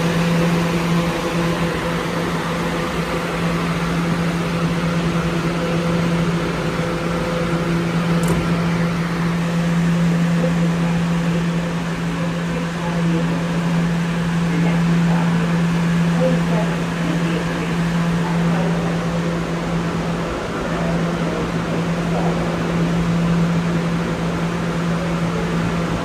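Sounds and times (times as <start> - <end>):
electrical hum and rumble: 0.0 - 26.0.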